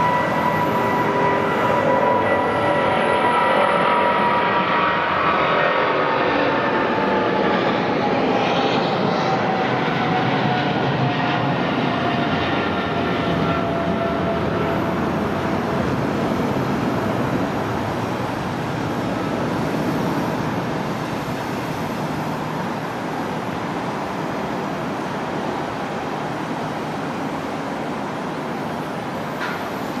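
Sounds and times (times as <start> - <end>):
jet airliner engines roaring: 0.0 - 30.0.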